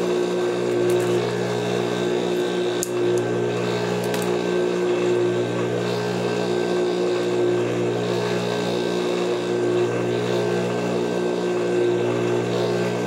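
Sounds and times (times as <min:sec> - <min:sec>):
sewing machine motor humming: 0:00.0 - 0:13.0.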